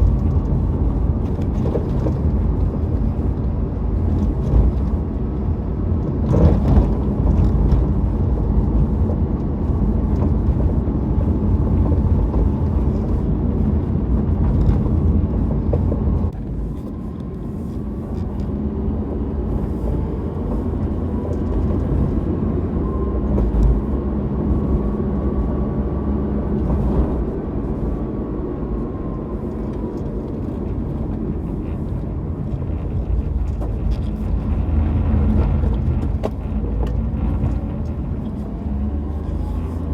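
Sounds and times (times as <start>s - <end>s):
van engine and road rumble: 0.0s - 39.9s.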